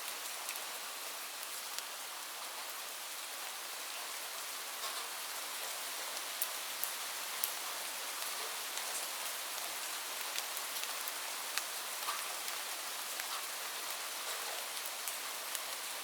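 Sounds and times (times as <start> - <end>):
raindrops ticking on a surface: 0.0 - 16.0.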